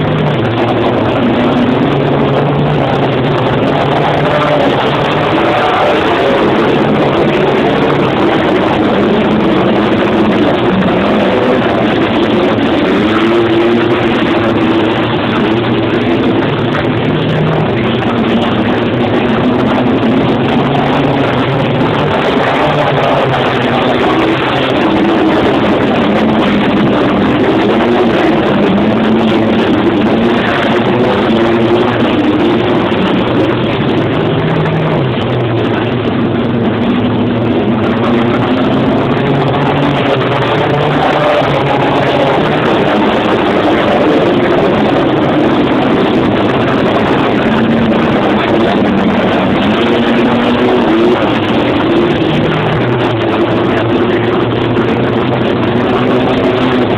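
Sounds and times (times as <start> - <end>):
race car engines running hard: 0.0 - 56.9.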